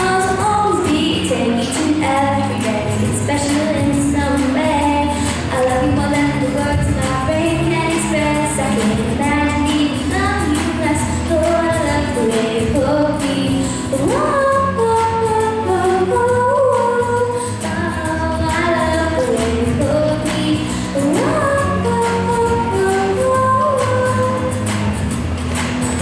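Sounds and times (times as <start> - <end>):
woman singing: 0.0 - 24.8
musical accompaniment: 0.0 - 26.0.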